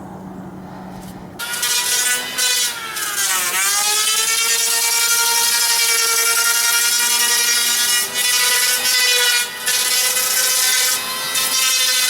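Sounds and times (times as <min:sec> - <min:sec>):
electric planer whining: 0:01.4 - 0:12.0.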